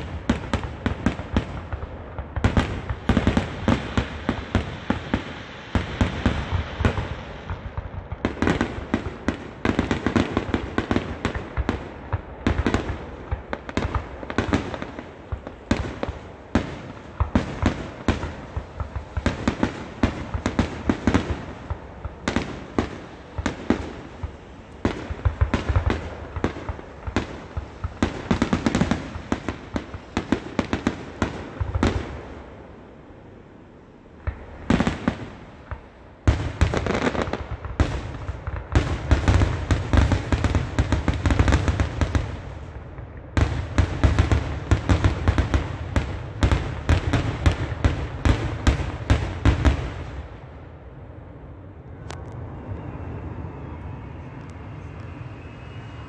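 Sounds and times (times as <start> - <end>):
sharp bangs and crackles: 0.0 - 32.8, 34.2 - 50.6.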